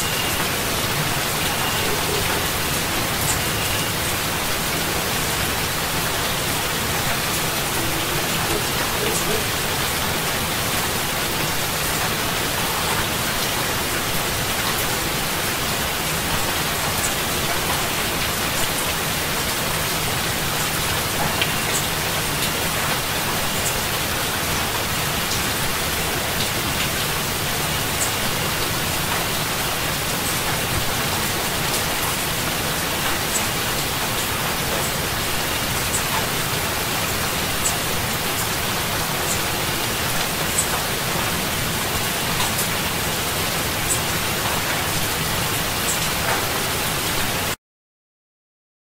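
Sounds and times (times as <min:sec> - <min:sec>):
heavy rain hissing: 0:00.0 - 0:47.6.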